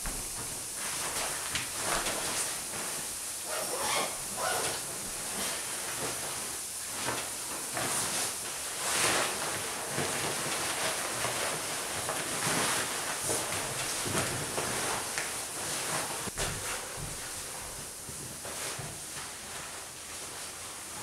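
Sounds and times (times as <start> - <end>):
sleeping bag rustling: 0.0 - 21.0.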